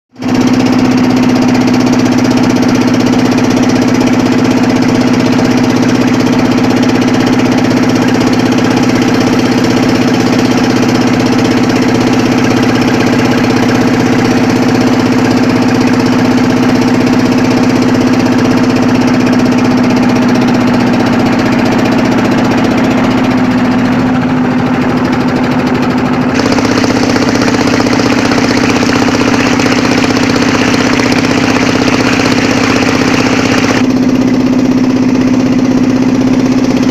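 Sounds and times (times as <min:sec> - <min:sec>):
boat motor humming: 0:00.1 - 0:36.9.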